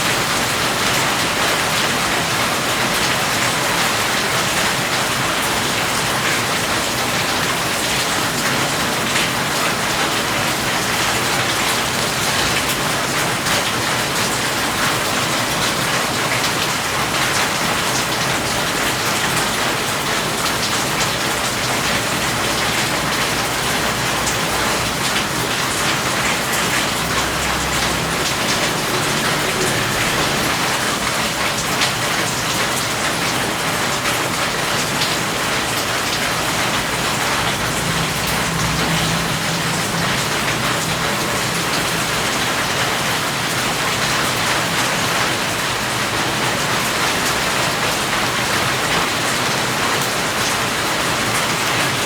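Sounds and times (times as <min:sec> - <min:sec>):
steady rain patter: 0:00.0 - 0:52.0.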